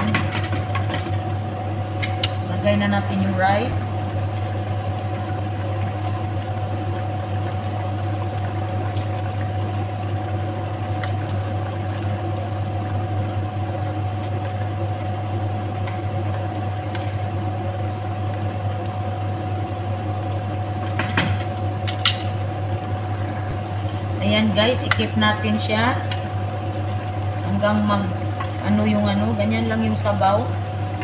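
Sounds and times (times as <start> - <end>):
low motor hum: 0.0 - 31.0
thin steady whine: 0.0 - 31.0.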